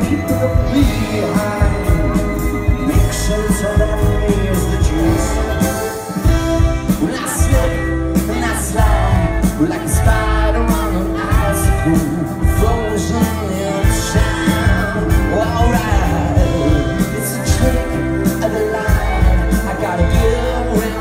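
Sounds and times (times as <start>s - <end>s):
drums: 0.0s - 21.0s
guitars: 0.0s - 21.0s
lead vocalist singing: 0.0s - 21.0s
violins: 0.0s - 21.0s.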